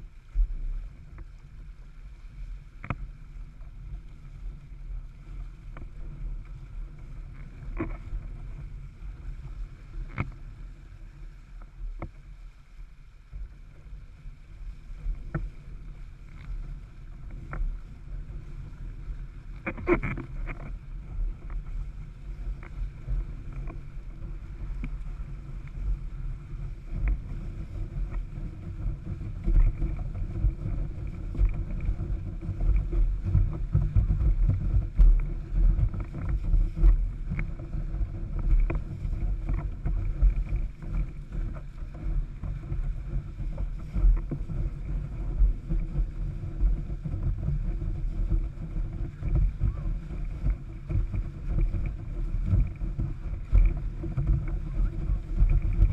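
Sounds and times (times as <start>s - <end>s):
wind buffeting microphone: 0.0s - 12.5s, 13.3s - 55.9s
water rushing under board: 0.0s - 55.9s.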